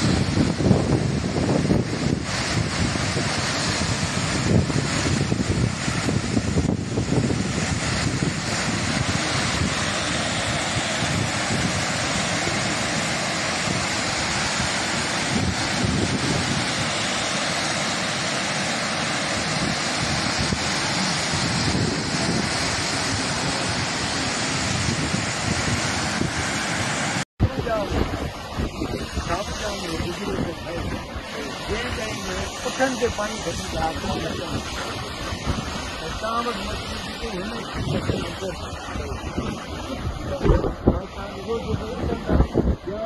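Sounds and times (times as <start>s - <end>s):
water rushing over spillway: 0.0s - 43.0s
wind buffeting microphone: 0.0s - 43.0s.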